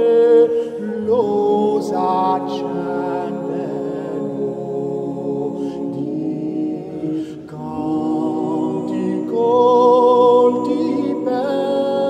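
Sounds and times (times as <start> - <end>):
higher solo voice singing: 0.0 - 12.0
voices singing held notes: 0.0 - 12.0.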